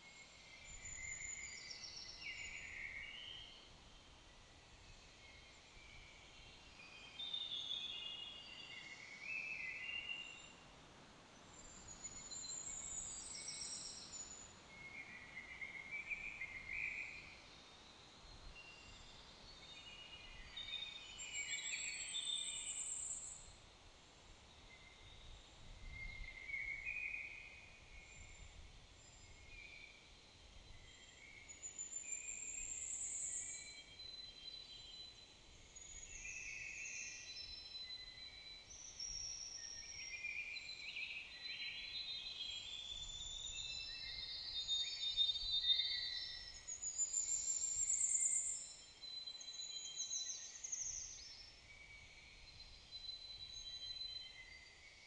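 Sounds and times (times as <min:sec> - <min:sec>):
faint background hiss: 0:00.0 - 0:55.0
songbirds singing: 0:00.0 - 0:55.0.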